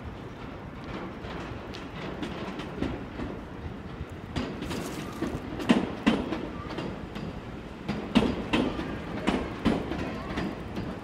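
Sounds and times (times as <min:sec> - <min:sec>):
train running rumble: 0:00.0 - 0:11.0
train wheels clacking over rail joints: 0:00.2 - 0:11.0.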